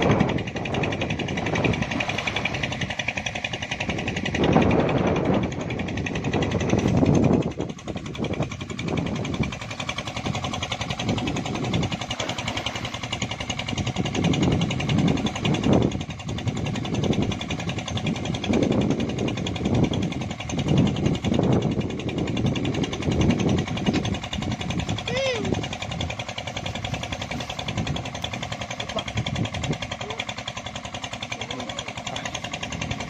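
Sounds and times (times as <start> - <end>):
engine-like drone: 0.0 - 33.0.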